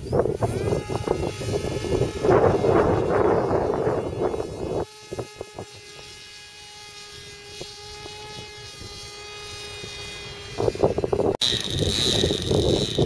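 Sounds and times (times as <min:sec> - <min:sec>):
wind buffeting microphone: 0:00.0 - 0:06.2, 0:07.2 - 0:13.0
autogyro engine buzzing drone: 0:00.0 - 0:13.0.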